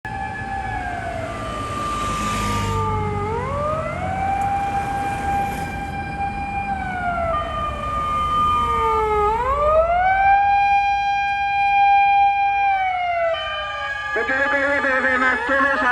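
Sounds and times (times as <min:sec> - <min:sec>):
mechanical motor siren wailing: 0:00.1 - 0:15.9.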